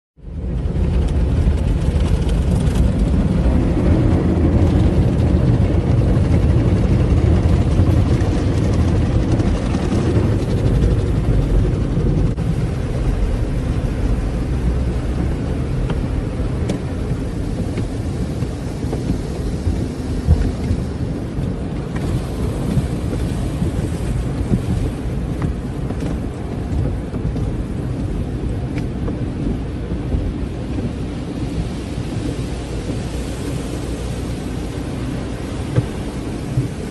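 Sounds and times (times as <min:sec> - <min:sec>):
car wash spraying water: 0:00.2 - 0:36.9.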